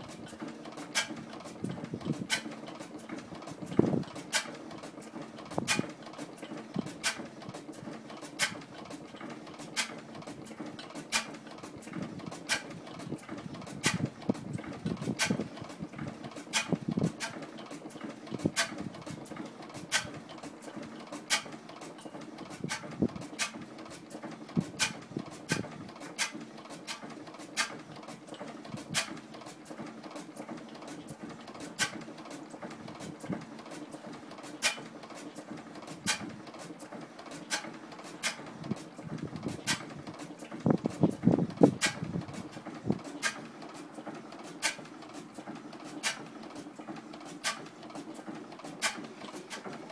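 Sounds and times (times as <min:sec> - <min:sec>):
engine clicks and knocks: 0:00.0 - 0:49.9
stationary gas engine humming: 0:00.0 - 0:49.9.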